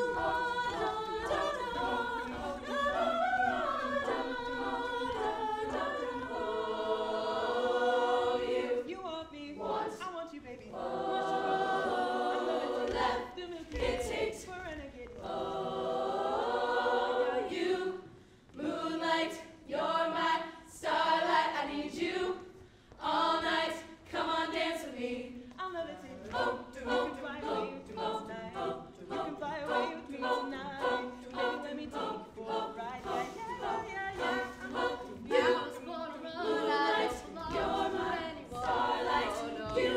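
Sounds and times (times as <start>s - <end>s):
women singing a cappella: 0.0s - 39.9s.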